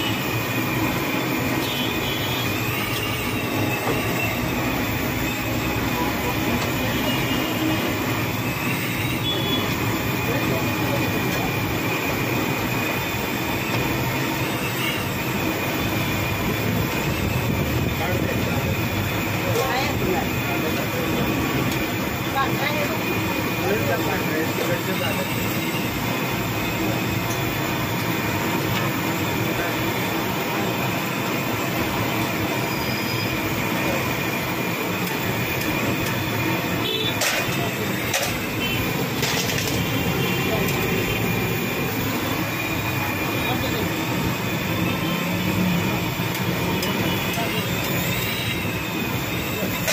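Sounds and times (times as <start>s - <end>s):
food deep-frying in hot oil: 0.0s - 49.9s.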